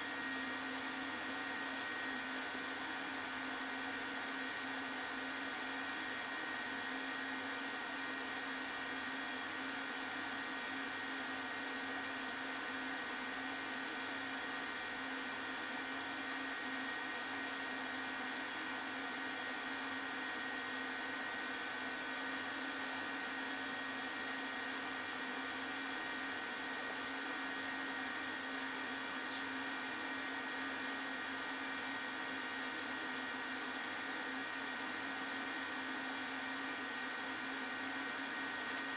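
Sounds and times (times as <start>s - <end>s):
milling machine hum and whine: 0.0s - 38.9s.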